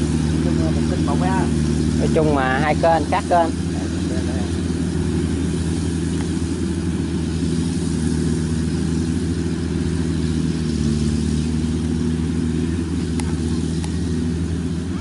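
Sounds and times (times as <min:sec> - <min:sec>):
combine harvester engine hum: 0:00.0 - 0:15.0
threshing machinery turning: 0:00.0 - 0:15.0.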